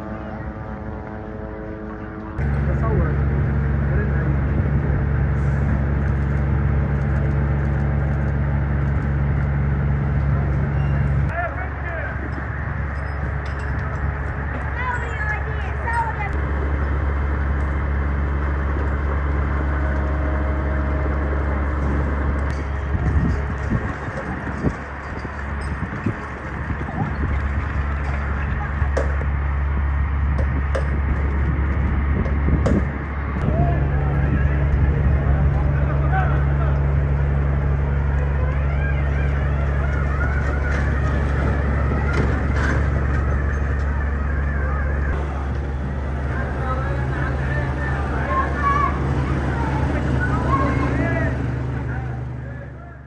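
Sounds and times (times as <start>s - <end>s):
engine running low hum: 0.0s - 53.0s
street noise: 0.0s - 53.0s.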